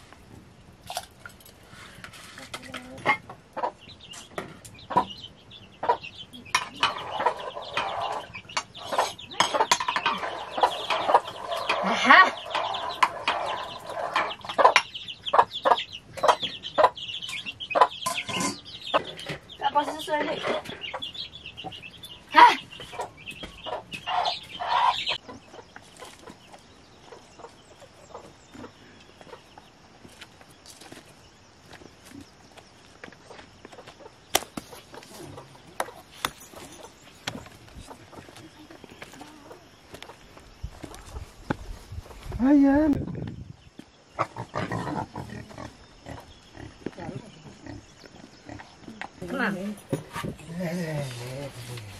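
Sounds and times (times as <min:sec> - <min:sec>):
chickens clucking: 0:00.9 - 0:31.2, 0:31.8 - 0:51.9.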